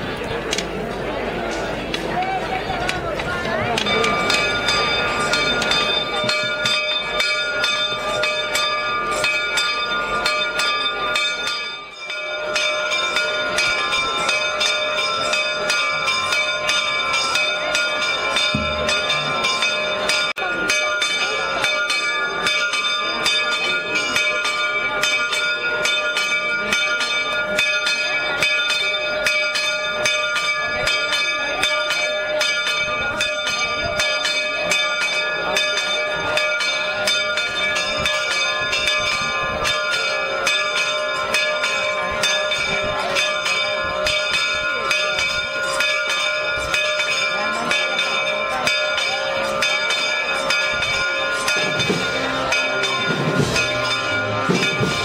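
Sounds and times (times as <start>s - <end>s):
crowd voices: 0.0s - 55.0s
bell ringing rapidly: 3.7s - 55.0s.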